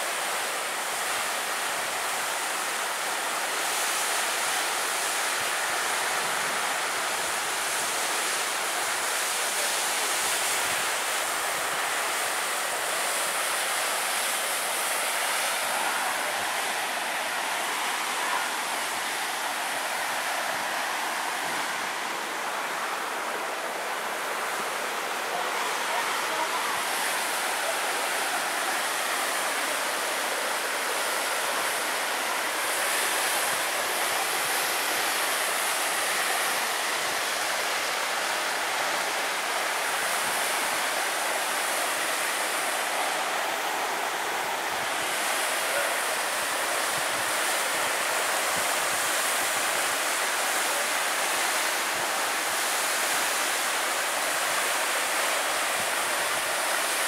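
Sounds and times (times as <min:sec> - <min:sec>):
waterfall rushing into pool: 0:00.0 - 0:57.0.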